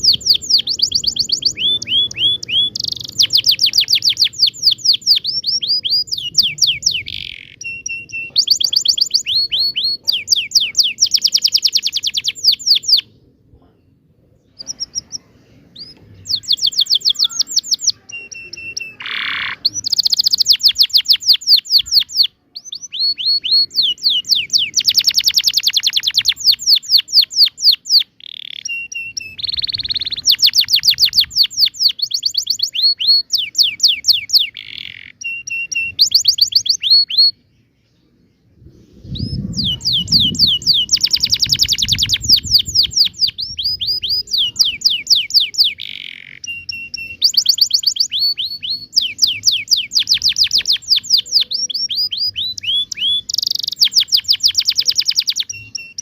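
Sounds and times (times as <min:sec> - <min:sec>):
canary singing trills: 0:00.0 - 0:38.2, 0:39.0 - 0:56.0.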